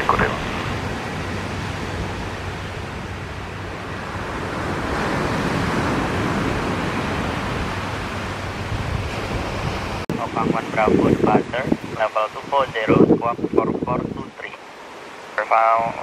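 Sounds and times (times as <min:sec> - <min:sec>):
sea surf: 0:00.0 - 0:16.0
wind: 0:00.0 - 0:16.0.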